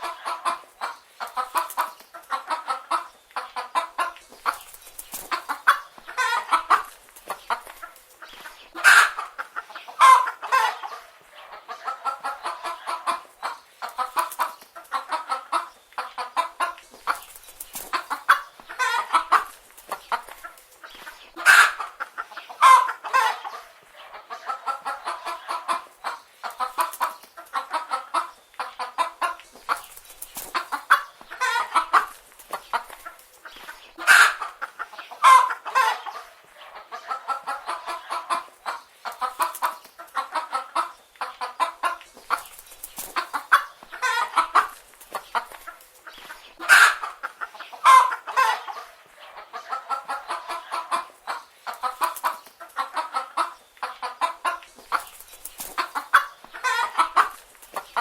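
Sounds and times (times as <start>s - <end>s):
hens clucking: 0.0s - 58.0s
hens squawking: 0.0s - 58.0s.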